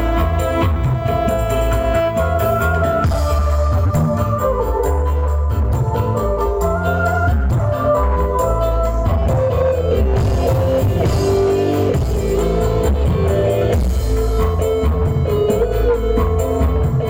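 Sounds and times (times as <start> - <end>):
loud music over sound system: 0.0 - 17.0.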